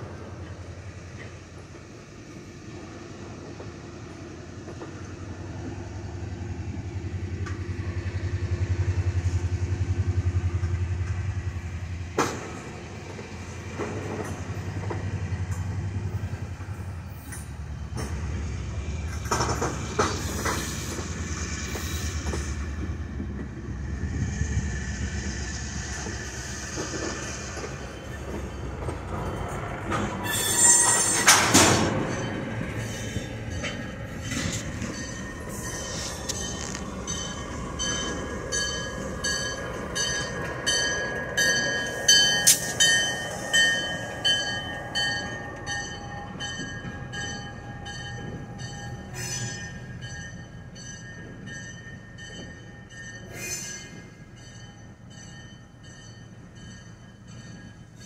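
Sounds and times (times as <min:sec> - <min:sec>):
train wheels squealing on rails: 0:00.0 - 0:58.0.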